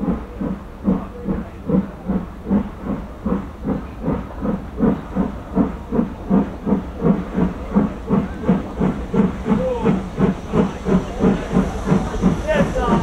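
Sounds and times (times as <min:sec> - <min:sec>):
steam locomotive exhaust beats: 0:00.0 - 0:13.0.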